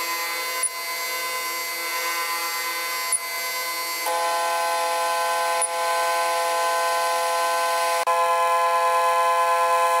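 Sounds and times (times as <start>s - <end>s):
stepper motors whining: 0.0s - 10.0s.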